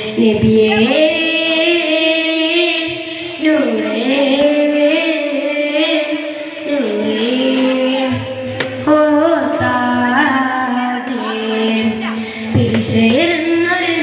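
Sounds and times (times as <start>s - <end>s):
boy singing through loudspeaker: 0.0s - 14.0s.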